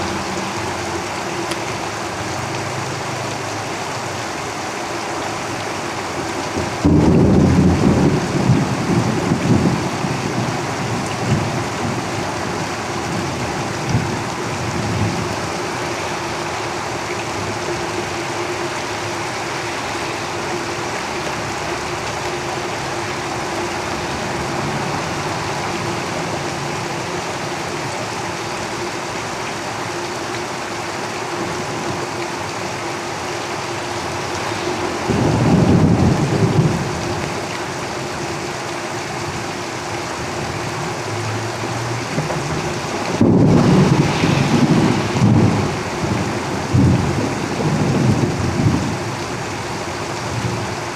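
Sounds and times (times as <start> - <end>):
heavy rain on a roof: 0.0 - 50.9.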